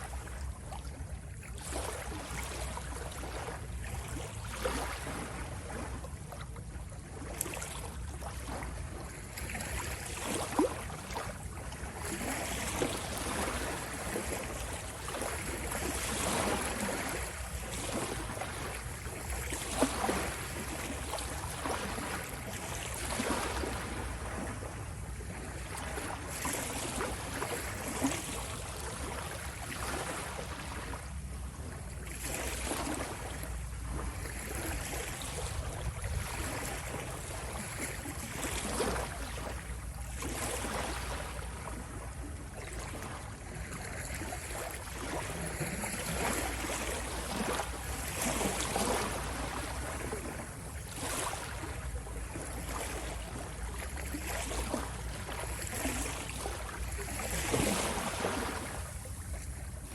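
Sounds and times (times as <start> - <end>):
ocean waves breaking: 9.5 - 59.9.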